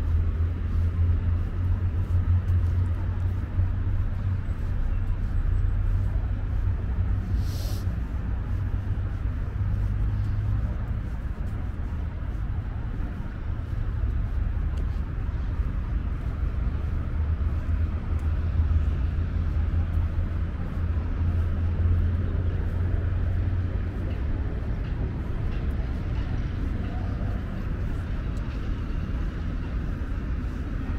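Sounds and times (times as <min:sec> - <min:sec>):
distant road traffic rumble: 0:00.0 - 0:30.9.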